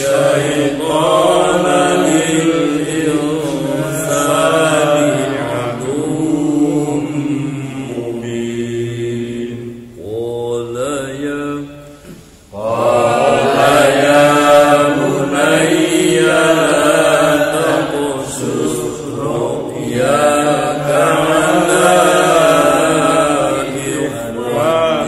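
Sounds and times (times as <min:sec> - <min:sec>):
man chanting melodically: 0:00.0 - 0:12.0, 0:12.6 - 0:25.0.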